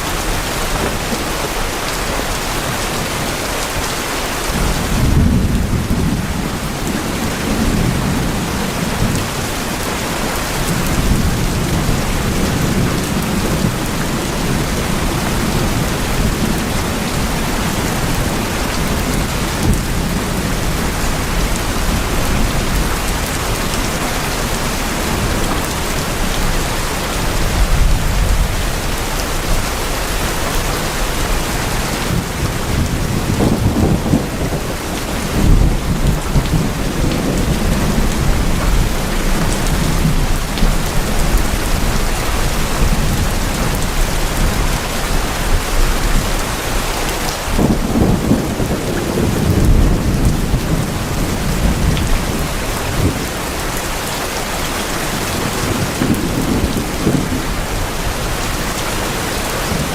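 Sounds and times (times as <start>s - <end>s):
rain drumming on tin roofs: 0.0s - 59.9s
low rolling thunder: 4.5s - 29.9s, 31.6s - 46.7s, 47.4s - 53.8s, 55.1s - 59.9s.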